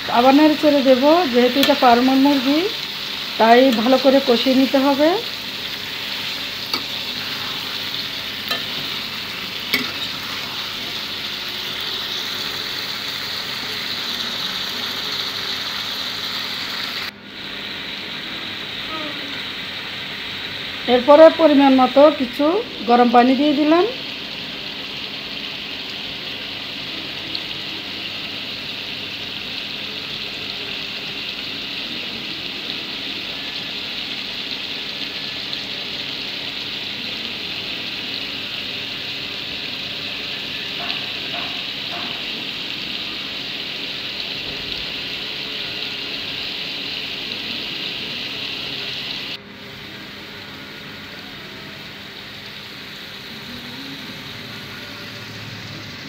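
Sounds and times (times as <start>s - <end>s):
curry bubbling and sizzling: 0.0s - 56.0s.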